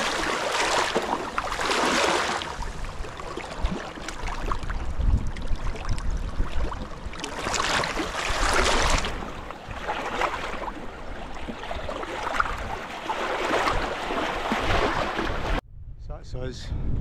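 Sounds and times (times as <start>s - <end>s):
waves lapping over rocks: 0.0s - 15.6s
wind rumbling on microphone: 0.0s - 17.0s.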